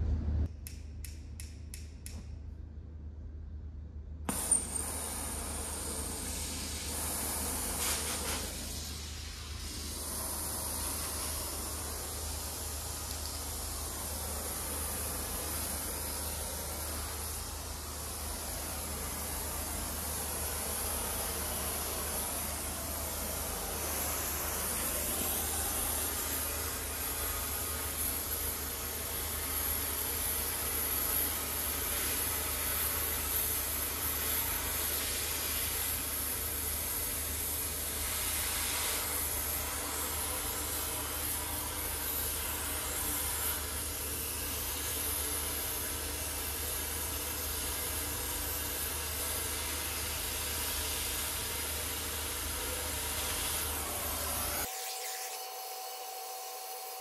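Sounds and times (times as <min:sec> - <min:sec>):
gas cutting torch hissing: 0:04.3 - 0:57.0.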